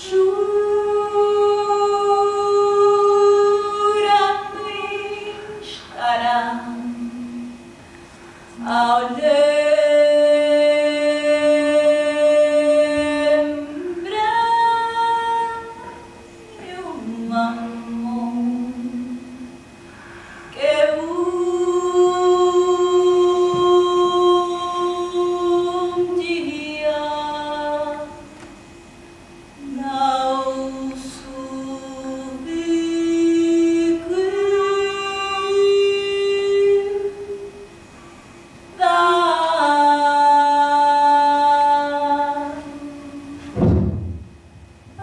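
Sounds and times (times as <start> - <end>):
person singing unaccompanied: 0.0 - 7.6, 8.6 - 19.5, 20.6 - 28.4, 29.6 - 37.5, 38.8 - 43.6.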